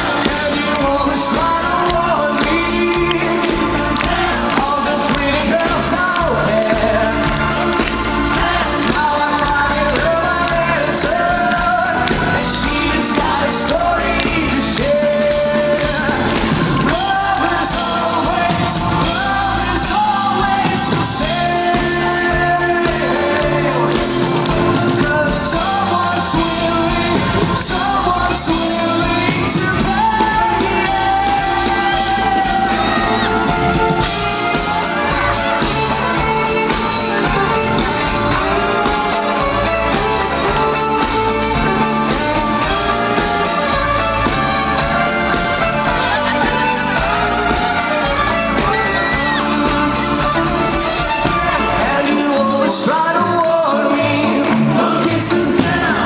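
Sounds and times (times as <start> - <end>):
drums and bass beat: 0.0 - 56.0
rock pop song with singing: 0.0 - 56.0.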